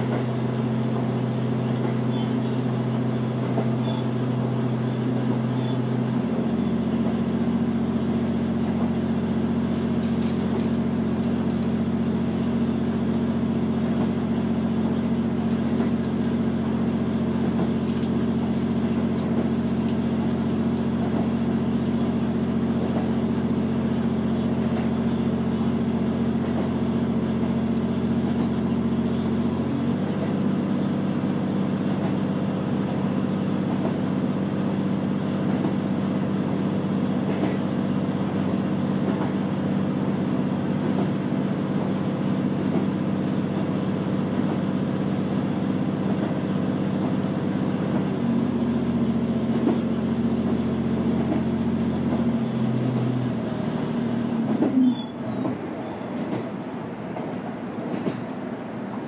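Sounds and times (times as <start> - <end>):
diesel railcar engine hum: 0.0 - 59.0.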